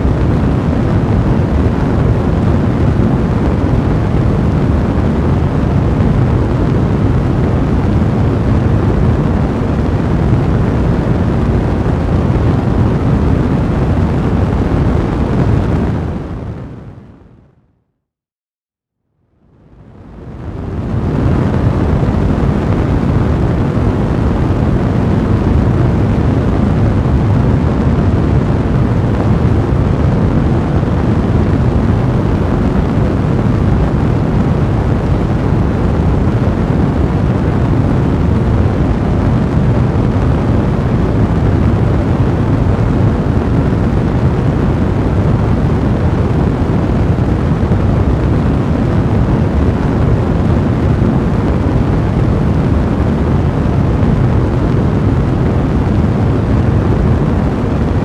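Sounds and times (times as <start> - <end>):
fire blazing in a fireplace: 0.0 - 17.2, 19.6 - 58.0.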